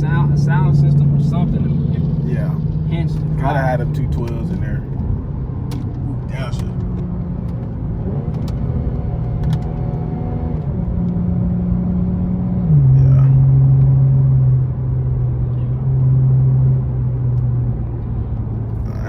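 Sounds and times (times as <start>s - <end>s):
car engine and exhaust droning: 0.0s - 19.0s.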